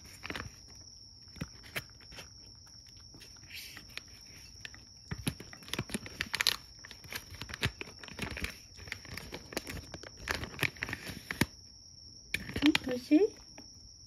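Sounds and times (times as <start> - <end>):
cat crunching and chewing food: 0.0 - 11.6.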